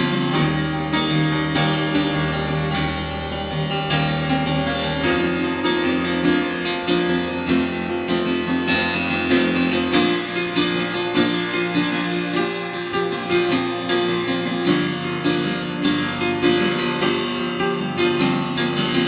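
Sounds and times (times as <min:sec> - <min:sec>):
piano: 0:00.0 - 0:19.0
plucked strings: 0:00.0 - 0:19.0.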